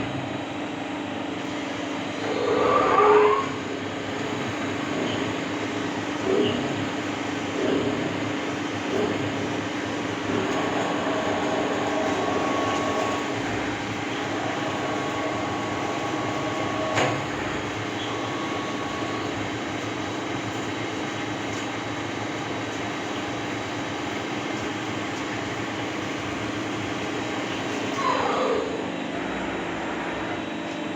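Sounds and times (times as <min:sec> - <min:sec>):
lathe mechanical hum: 0:00.0 - 0:30.9.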